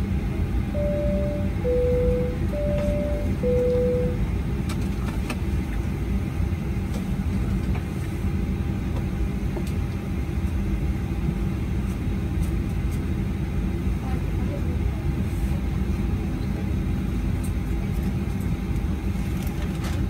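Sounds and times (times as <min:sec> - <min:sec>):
airplane cabin low rumble: 0:00.0 - 0:20.0.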